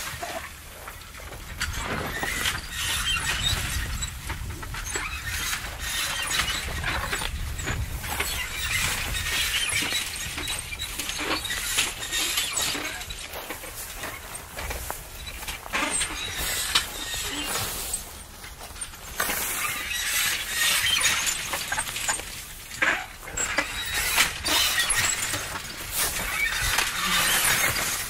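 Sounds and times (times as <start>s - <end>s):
farm machinery clattering: 0.0s - 28.0s.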